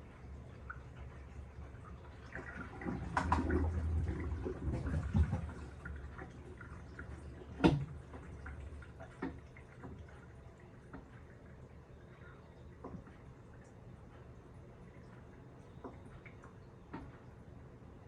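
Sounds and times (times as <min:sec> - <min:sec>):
water sloshing in washing machine: 0:00.0 - 0:18.0.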